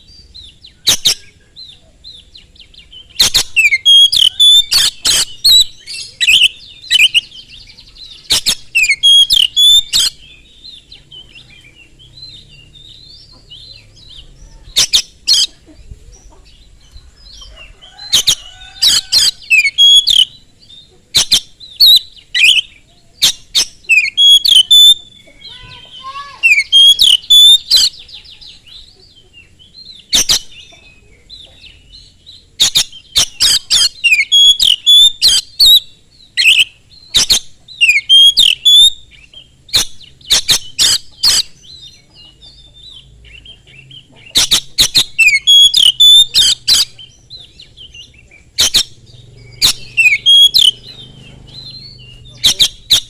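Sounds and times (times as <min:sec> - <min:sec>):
bird singing: 0:00.0 - 0:53.0.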